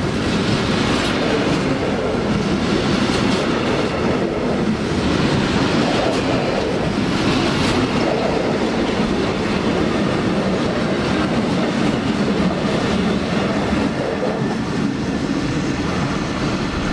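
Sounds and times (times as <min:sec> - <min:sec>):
train wheels rattling on rails: 0:00.0 - 0:16.9.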